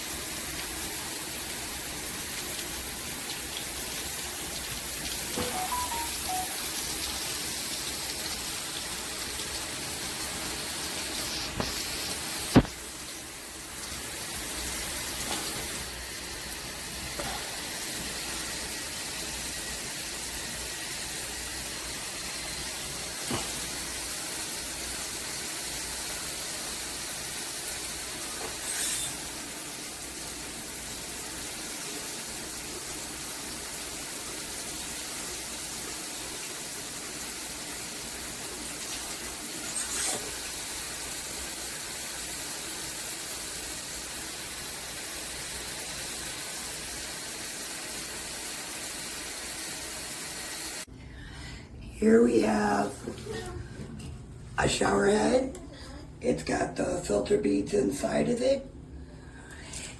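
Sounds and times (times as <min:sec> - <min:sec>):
water spraying from shower head: 0:00.0 - 0:50.9.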